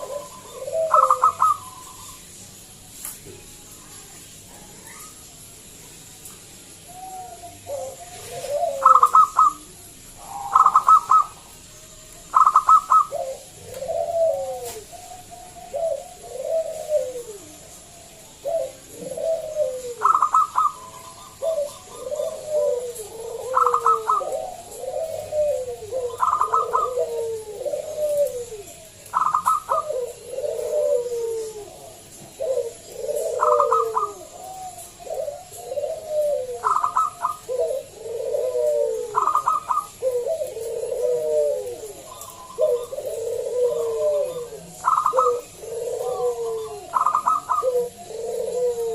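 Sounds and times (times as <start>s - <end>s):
dove cooing: 0.0s - 2.4s, 6.8s - 48.9s.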